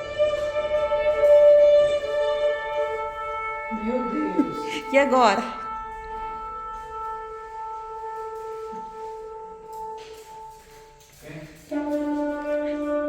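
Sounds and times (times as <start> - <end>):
long trumpet blast: 0.0 - 13.0.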